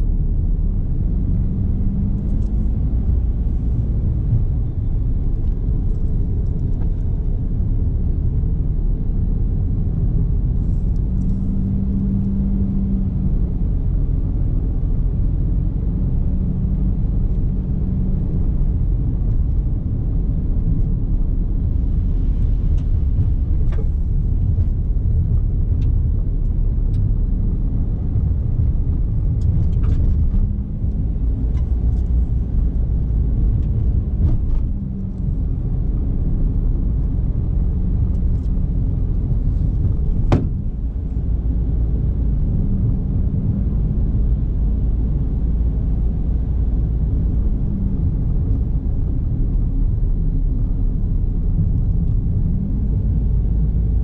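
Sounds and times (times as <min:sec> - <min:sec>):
car engine and road noise: 0:00.0 - 0:54.0
low engine hum: 0:00.0 - 0:54.0.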